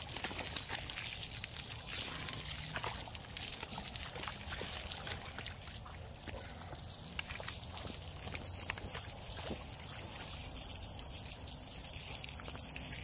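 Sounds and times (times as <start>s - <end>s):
hose water hissing and splashing: 0.0s - 13.0s.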